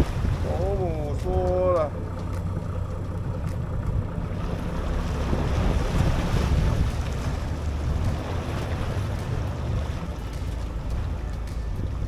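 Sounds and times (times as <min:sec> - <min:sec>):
boat engine droning: 0:00.0 - 0:12.0
sea wash: 0:00.0 - 0:12.0
wind buffeting microphone: 0:00.0 - 0:12.0.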